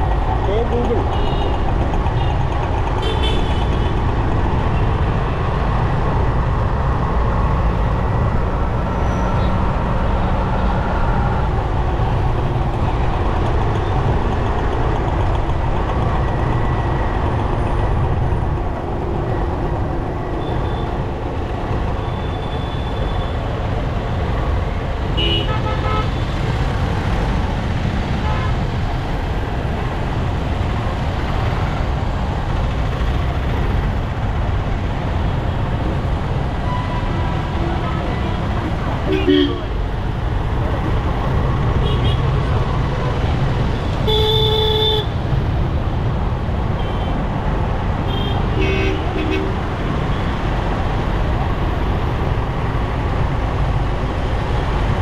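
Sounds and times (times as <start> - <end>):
motorcycle road and engine noise: 0.0 - 55.0.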